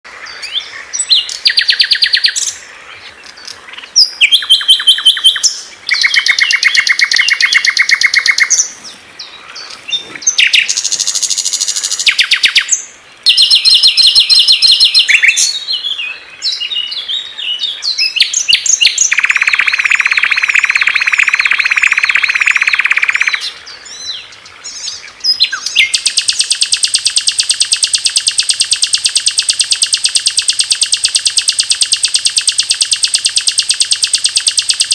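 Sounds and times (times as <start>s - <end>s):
songbirds trilling: 0.1s - 34.9s.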